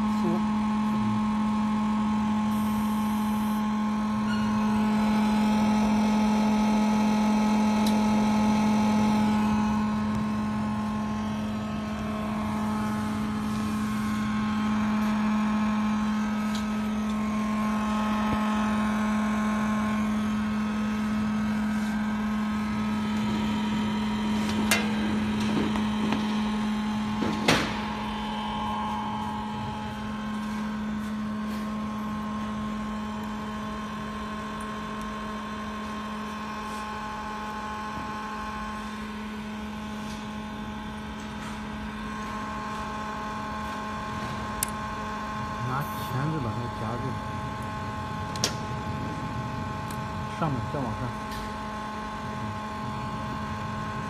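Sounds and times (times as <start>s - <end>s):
induction heater humming and whining: 0.0s - 54.0s.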